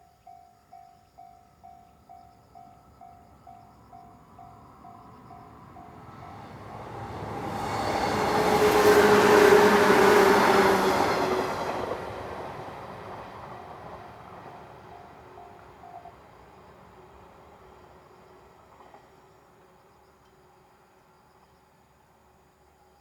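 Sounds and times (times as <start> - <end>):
electric train passing: 1.2 - 21.4.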